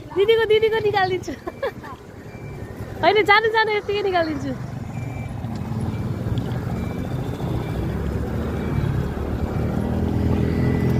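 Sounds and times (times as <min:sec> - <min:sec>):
wind and road noise: 0:00.0 - 0:10.9.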